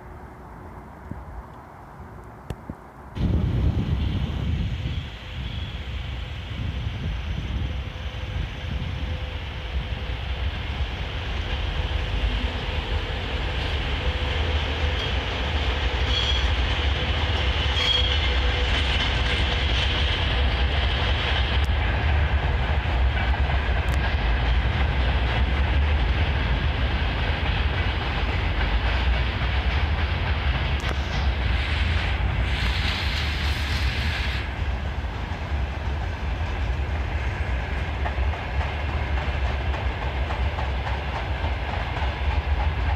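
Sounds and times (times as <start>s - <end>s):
freight train wagons rumbling: 3.2s - 42.9s.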